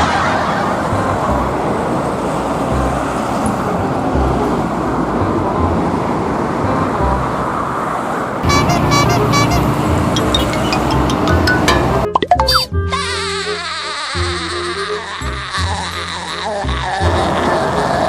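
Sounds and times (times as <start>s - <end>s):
music: 0.0s - 1.8s, 2.7s - 7.4s, 8.4s - 18.0s
road traffic noise: 0.0s - 18.0s.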